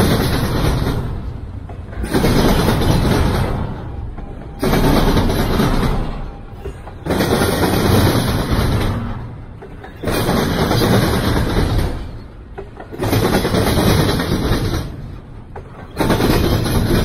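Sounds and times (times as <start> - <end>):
train wheels clattering on rails: 0.0 - 17.0.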